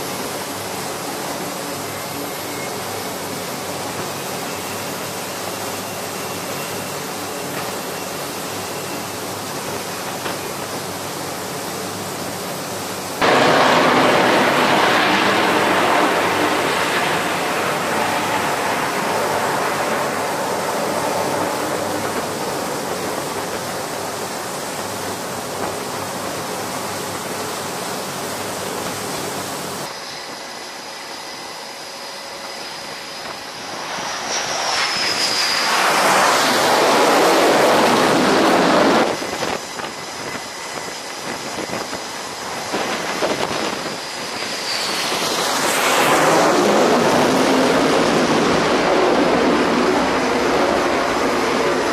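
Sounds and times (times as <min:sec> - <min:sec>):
jet coming in to land: 0:00.0 - 0:51.9
jet engine hiss: 0:00.0 - 0:51.9.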